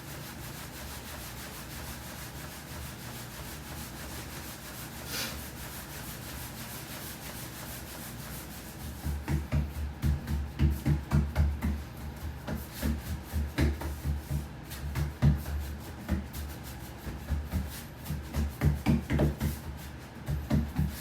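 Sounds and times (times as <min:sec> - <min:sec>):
rolling pin rolling over dough: 0:00.0 - 0:21.0.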